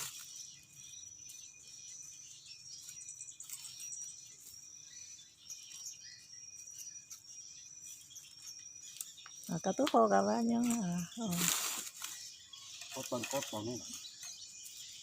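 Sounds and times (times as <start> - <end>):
short insect chirps: 0.0 - 14.8.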